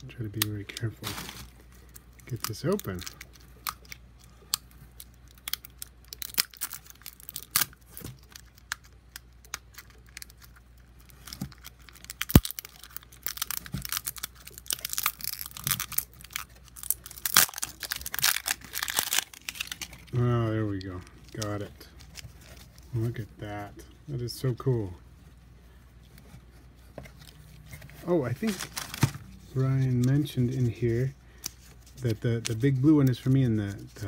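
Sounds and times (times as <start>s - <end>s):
plastic wrap crinkling and tearing: 0.1s - 23.2s, 26.8s - 34.0s.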